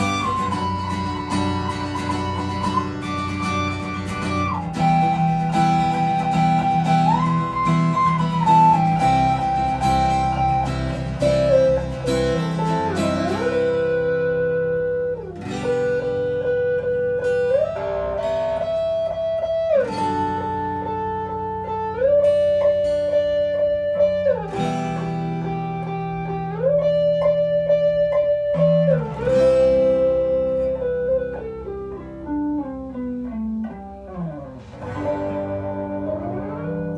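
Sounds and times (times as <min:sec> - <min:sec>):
guitar chords strummed: 0:00.0 - 0:36.9
guitar lead melody sliding: 0:00.0 - 0:36.9.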